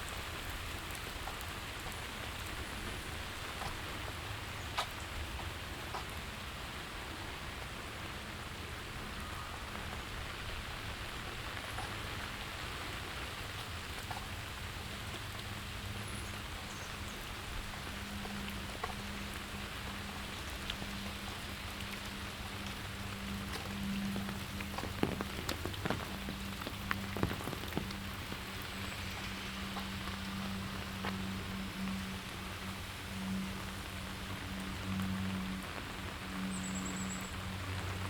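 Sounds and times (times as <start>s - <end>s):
raindrops ticking on surfaces: 0.0s - 38.0s
steady rain falling: 0.0s - 38.0s.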